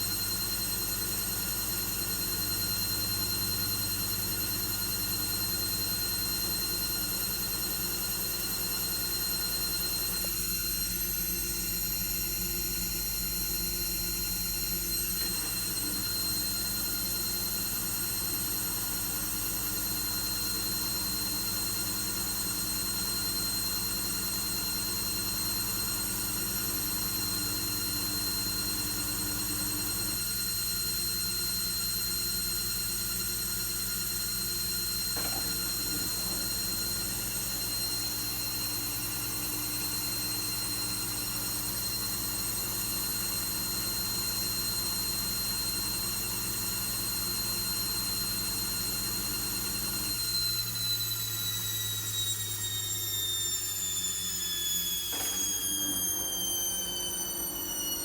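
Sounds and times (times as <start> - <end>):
washing machine whine and hum: 0.0 - 58.0.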